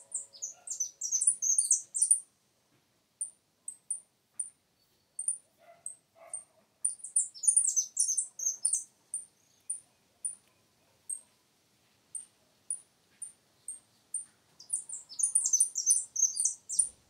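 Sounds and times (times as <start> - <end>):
small birds chirping: 0.0 - 2.3, 3.2 - 11.4, 12.1 - 17.0.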